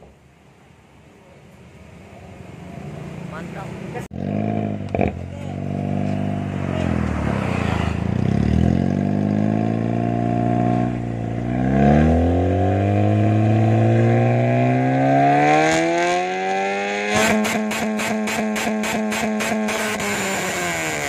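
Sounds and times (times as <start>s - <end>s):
car engine revving: 2.6s - 21.0s.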